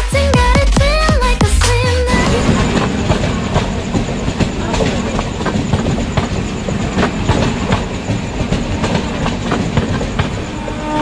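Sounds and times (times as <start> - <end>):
train wheels clattering: 2.1 - 11.0.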